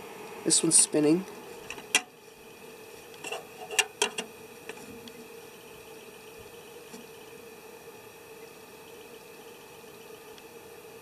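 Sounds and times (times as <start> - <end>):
storage unit humming: 0.0 - 11.0.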